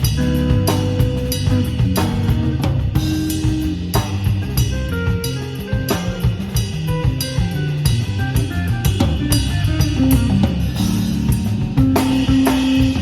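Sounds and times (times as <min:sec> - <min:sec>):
bass line: 0:00.0 - 0:13.0
cymbals: 0:00.0 - 0:13.0
jazz band playing: 0:00.0 - 0:13.0.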